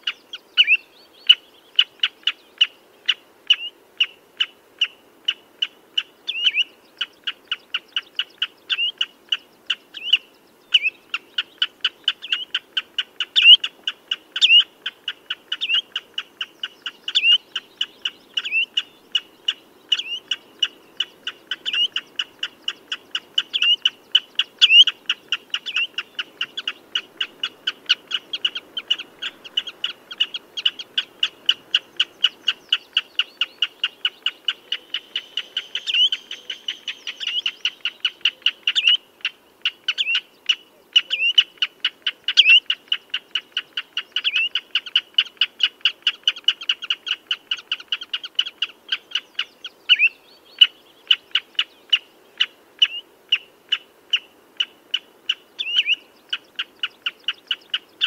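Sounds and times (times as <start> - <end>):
bird piping calls: 0.0 - 58.0.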